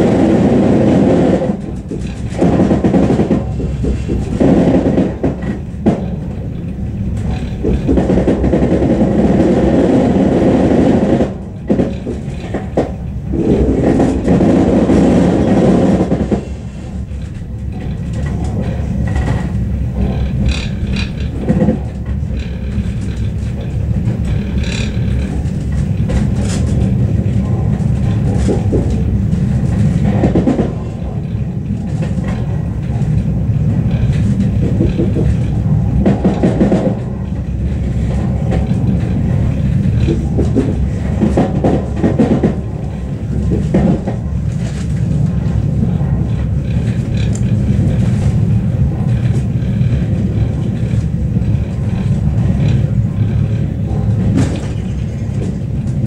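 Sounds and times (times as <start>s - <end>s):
train rumbling: 0.0s - 56.0s
wheels clicking over rail joints: 0.0s - 56.0s.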